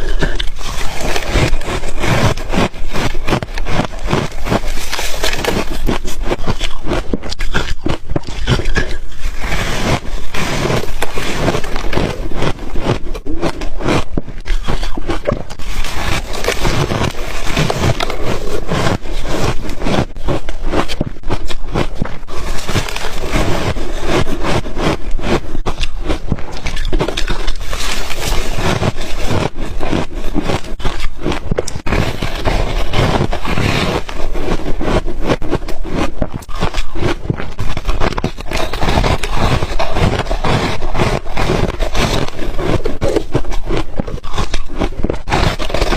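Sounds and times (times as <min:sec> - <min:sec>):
freezer frost crunching: 0:00.0 - 0:45.9.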